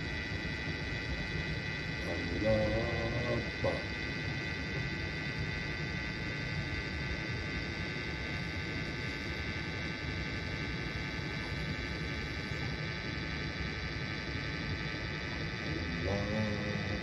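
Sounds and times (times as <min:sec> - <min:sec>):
room hum and hiss: 0:00.0 - 0:17.0.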